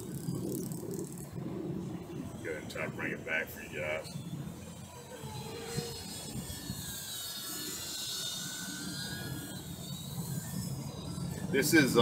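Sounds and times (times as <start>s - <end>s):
drone motors whining: 0.0s - 12.0s
wind rumbling on microphone: 0.0s - 12.0s.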